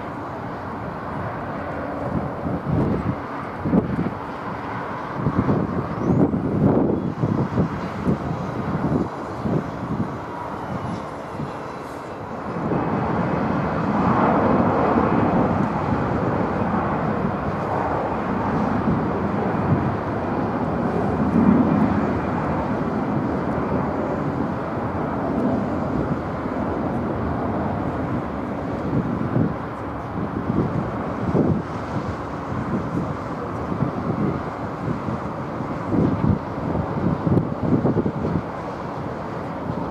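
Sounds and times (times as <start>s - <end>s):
airliner engines passing: 0.0s - 39.9s.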